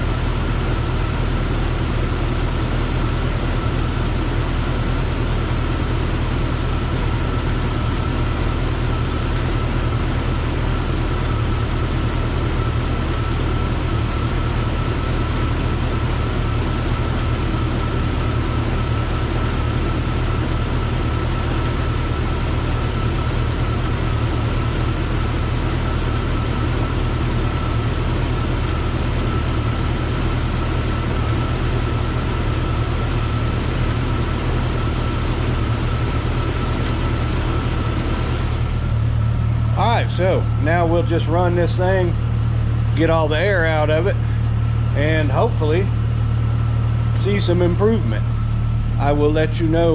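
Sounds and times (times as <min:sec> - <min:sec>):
car engine idling: 0:00.0 - 0:49.9
steady high whine: 0:00.0 - 0:49.9.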